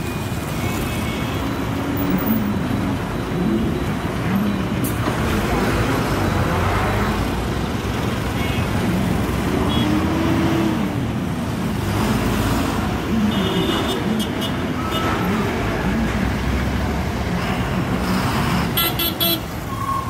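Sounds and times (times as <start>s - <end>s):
road traffic engines: 0.0s - 20.0s.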